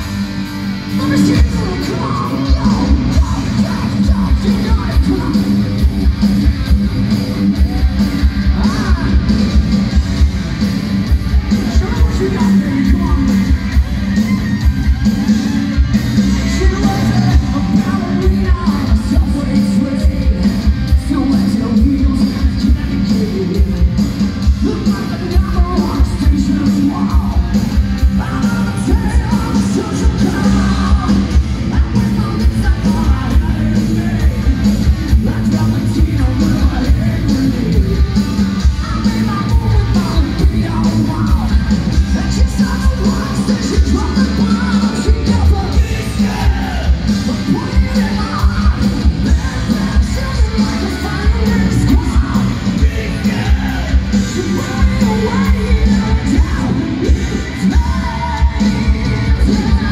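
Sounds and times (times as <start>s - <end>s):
hard rock band playing: 0.0s - 59.9s
man singing: 0.9s - 5.9s, 7.6s - 9.6s, 11.3s - 13.8s, 16.2s - 59.9s.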